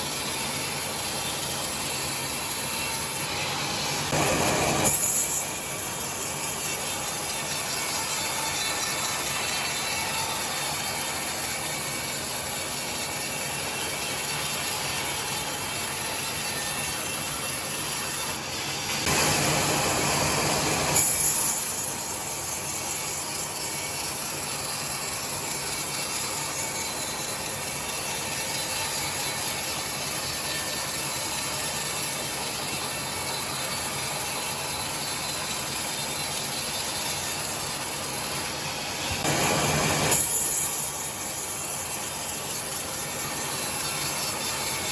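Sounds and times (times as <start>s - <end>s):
sawmill saw ripping timber: 0.0s - 44.9s.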